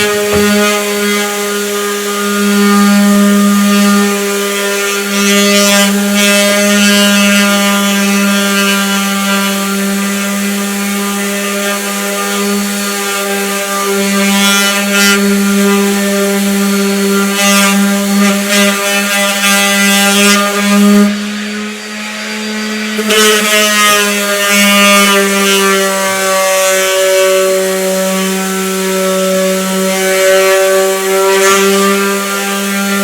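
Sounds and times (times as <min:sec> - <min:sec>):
power tool motor whine: 0:00.0 - 0:33.0.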